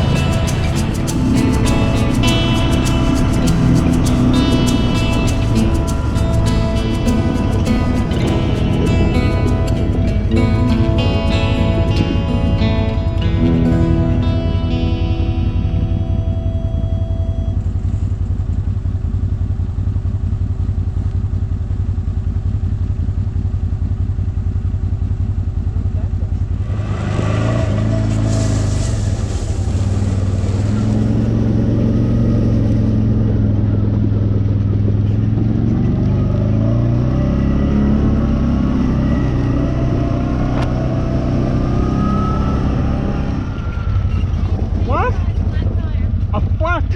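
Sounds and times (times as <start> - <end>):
atv engine running: 0.0 - 46.6.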